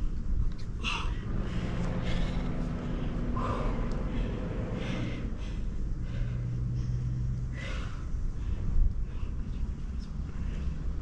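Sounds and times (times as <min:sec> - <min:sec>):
steady low hum: 0:00.0 - 0:11.0
woman breathing hard: 0:00.8 - 0:11.0.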